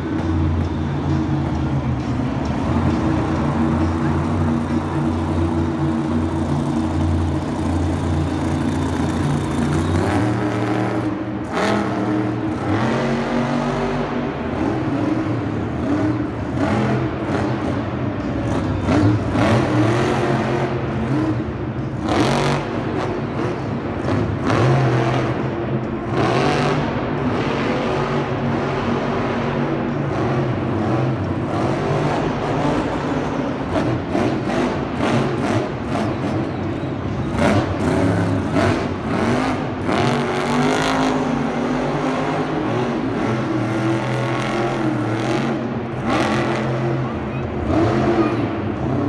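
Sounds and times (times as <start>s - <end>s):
vehicle engine revving: 0.0s - 49.0s.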